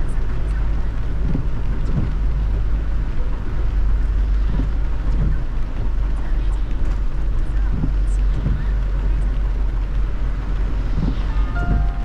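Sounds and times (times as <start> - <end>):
car driving on wet road: 0.0 - 12.0
heavy rain: 0.0 - 12.0.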